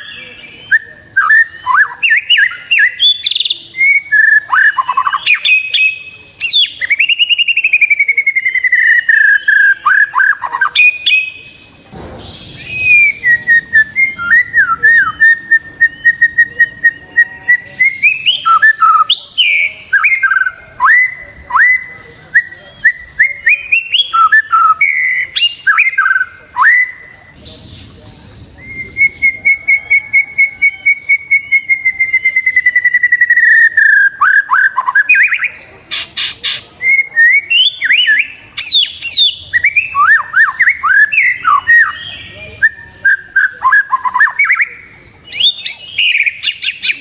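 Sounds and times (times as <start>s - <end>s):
bird singing whistles and chips: 0.0s - 47.0s.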